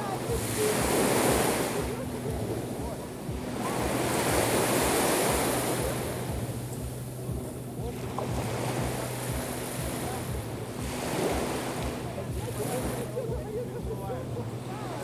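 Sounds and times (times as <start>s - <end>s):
waves washing in and draining: 0.0s - 15.0s.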